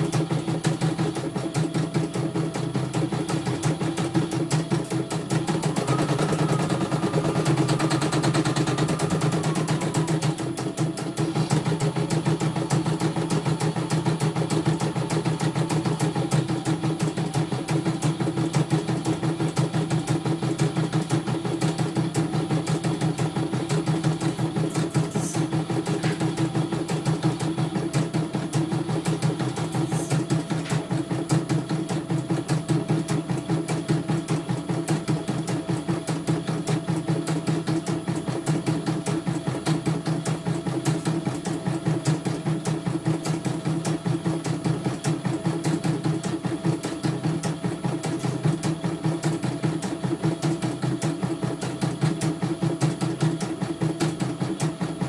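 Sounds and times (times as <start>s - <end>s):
embroidery machine stitching: 0.0s - 55.0s
high machine whine: 0.0s - 55.0s.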